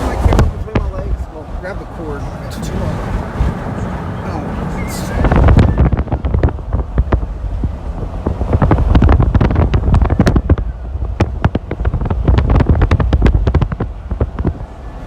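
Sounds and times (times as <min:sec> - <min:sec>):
wind and vehicle rumble: 0:00.0 - 0:15.0.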